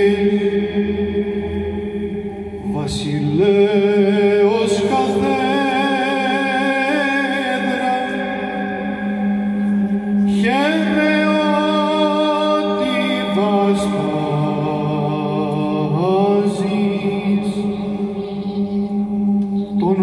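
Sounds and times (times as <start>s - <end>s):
male choir chanting: 0.0s - 19.0s
low vocal drone: 0.0s - 20.0s.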